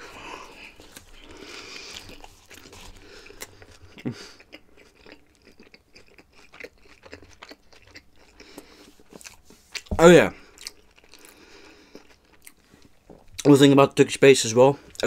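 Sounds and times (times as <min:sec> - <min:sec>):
person chewing food: 0:00.0 - 0:13.5.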